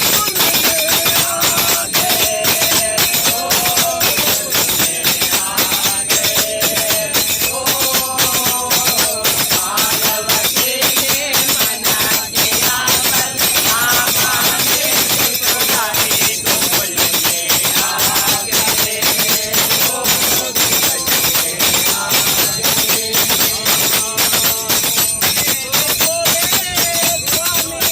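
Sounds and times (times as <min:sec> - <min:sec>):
jingling hand percussion: 0:00.0 - 0:27.9
voices singing: 0:00.0 - 0:27.9.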